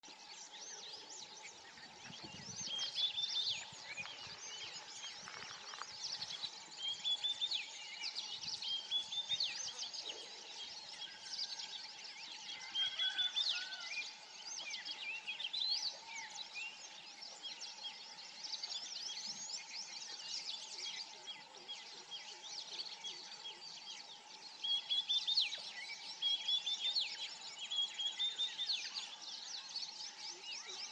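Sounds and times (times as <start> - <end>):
birds chirping and calling: 0.0 - 30.9.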